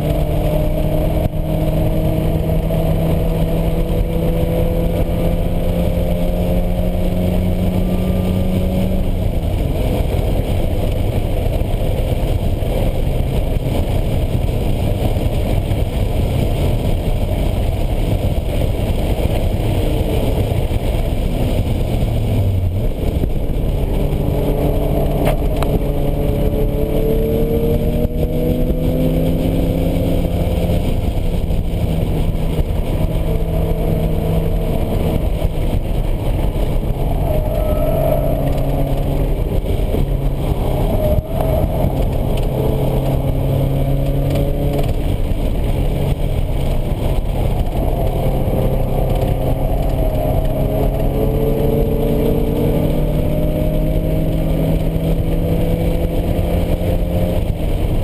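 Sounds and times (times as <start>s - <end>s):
car engine accelerating: 0.0s - 58.0s
gear changes: 0.0s - 58.0s.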